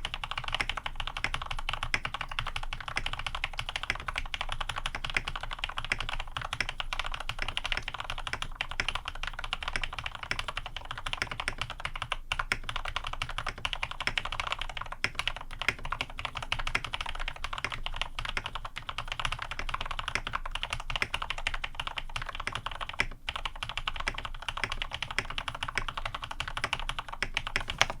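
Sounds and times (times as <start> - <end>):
fast typing on mechanical keyboard: 0.0 - 28.0.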